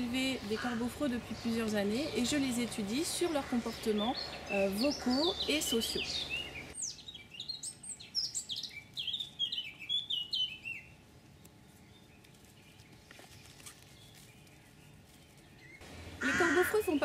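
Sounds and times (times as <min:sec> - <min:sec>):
faint outdoor background: 0:00.0 - 0:17.0
high falling bird chirps: 0:03.3 - 0:17.0.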